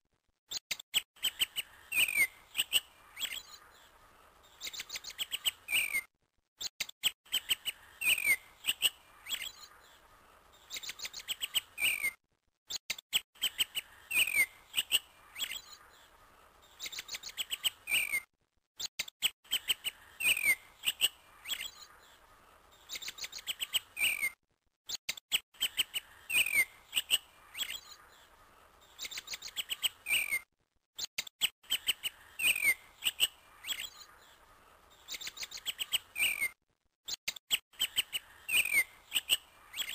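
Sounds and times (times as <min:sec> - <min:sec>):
birdsong chirps and trills: 0:00.5 - 0:39.9.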